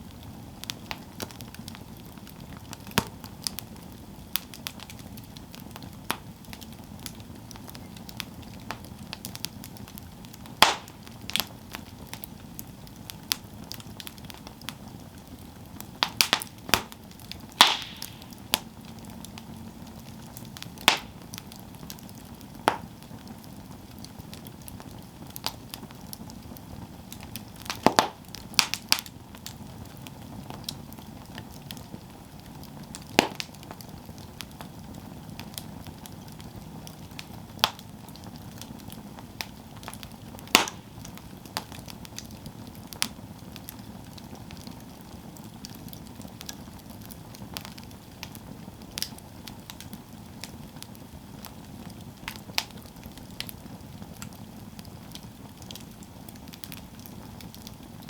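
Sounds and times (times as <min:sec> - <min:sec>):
campfire hiss: 0:00.0 - 0:58.0
wood crackles and pops: 0:00.0 - 0:58.0.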